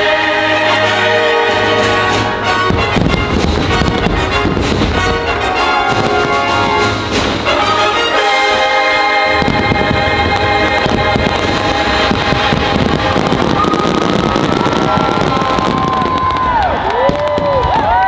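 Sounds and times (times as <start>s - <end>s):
orchestral music: 0.0s - 16.3s
fireworks booming and crackling: 1.8s - 18.0s.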